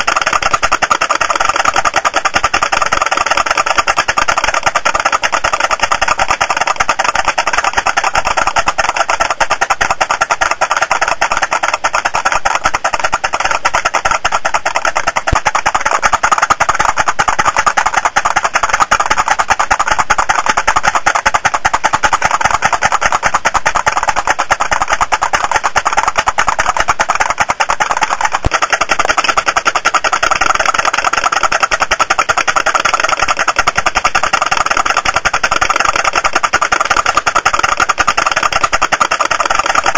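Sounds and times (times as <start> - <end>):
toy steam boat engine popping: 0.0 - 39.9.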